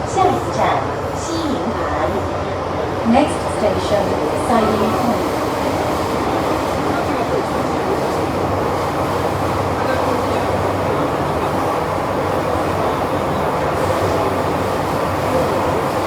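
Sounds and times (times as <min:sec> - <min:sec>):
metro train rumbling in tunnel: 0:00.0 - 0:16.0.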